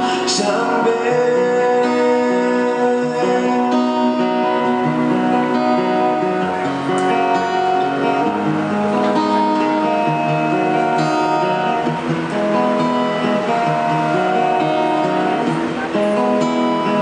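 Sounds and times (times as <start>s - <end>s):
pop ballad guitar: 0.0s - 17.0s.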